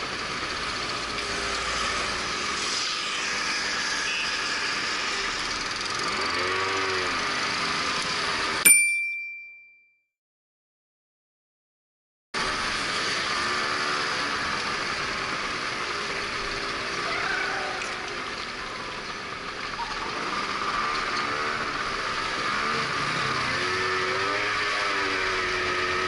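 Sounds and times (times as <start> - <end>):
scooter engine running: 0.0 - 8.7, 12.4 - 26.0
road and traffic noise: 0.0 - 9.0, 12.4 - 26.0.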